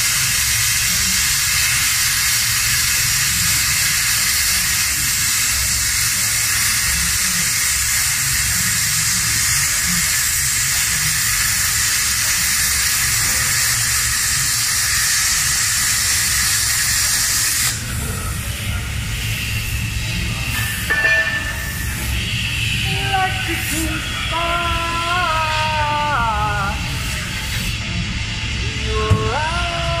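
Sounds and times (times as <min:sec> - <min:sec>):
plasma cutter hissing: 0:00.0 - 0:30.0.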